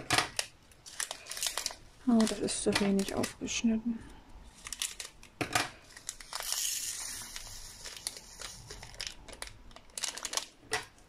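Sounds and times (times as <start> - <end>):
plastic bag crinkling: 0.0 - 3.9, 4.5 - 11.0.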